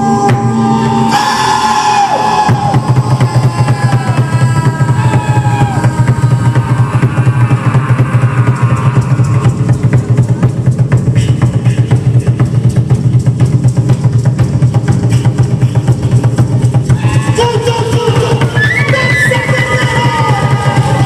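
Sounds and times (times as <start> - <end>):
fast bass drum beat: 0.0 - 21.0.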